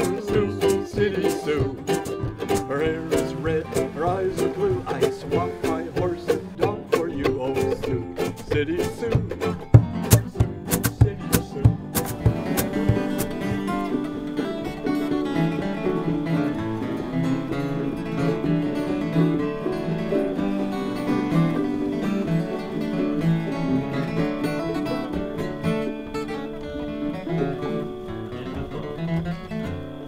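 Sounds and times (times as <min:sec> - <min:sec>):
acoustic guitars strummed and picked: 0:00.0 - 0:30.0.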